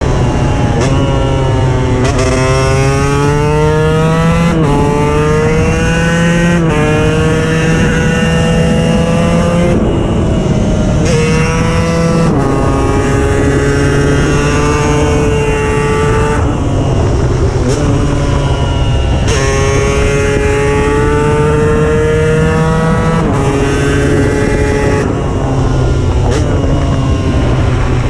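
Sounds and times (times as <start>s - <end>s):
two-stroke engine accelerating: 0.0s - 28.0s.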